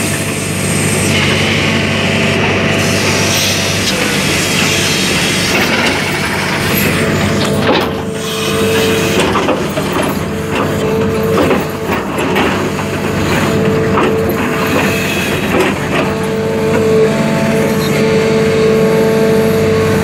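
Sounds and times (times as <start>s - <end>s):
engine whine: 0.0s - 20.0s
excavator diesel engine: 0.0s - 20.0s.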